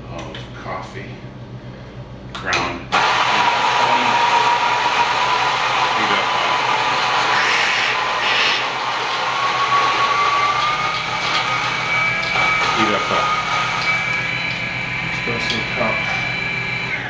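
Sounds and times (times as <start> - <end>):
coffee grinder motor whine: 2.9 - 17.0.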